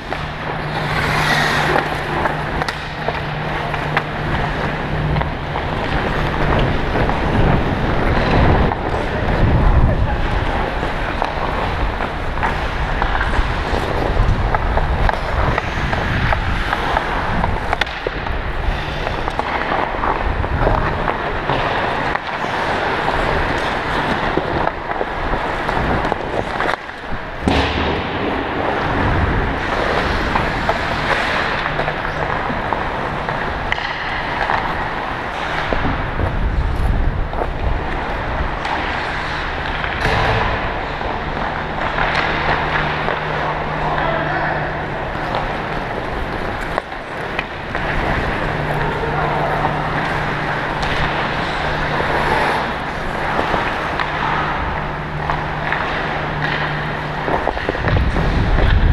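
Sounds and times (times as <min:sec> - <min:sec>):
steady low rumble: 0:00.0 - 0:44.0, 0:44.6 - 0:58.9
ice skates scraping ice: 0:00.0 - 0:58.9.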